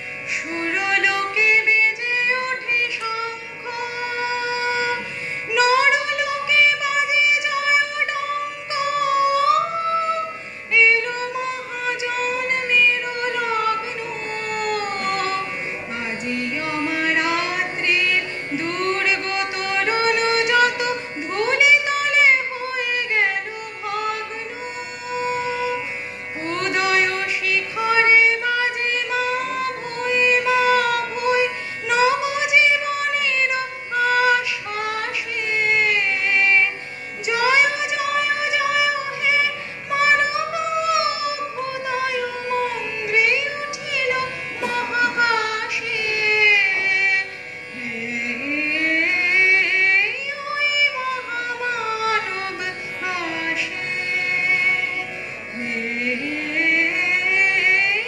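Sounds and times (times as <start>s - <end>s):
woman singing into microphone: 0.0s - 58.0s.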